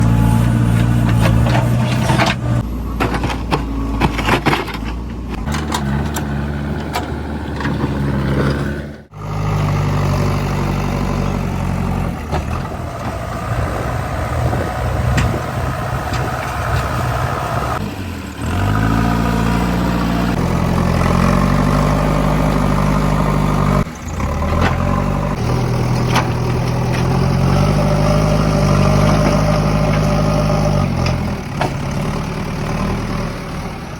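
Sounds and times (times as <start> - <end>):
diesel engine running under load: 0.0 - 33.9.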